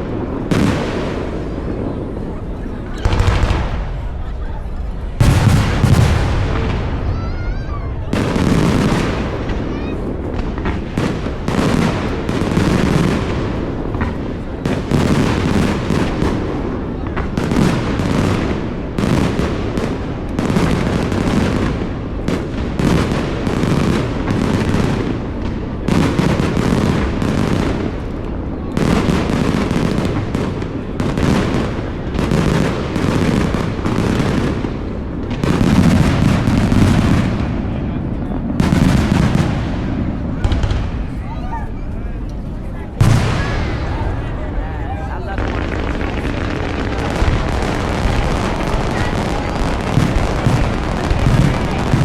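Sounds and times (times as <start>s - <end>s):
fireworks bangs and booms: 0.0s - 52.0s.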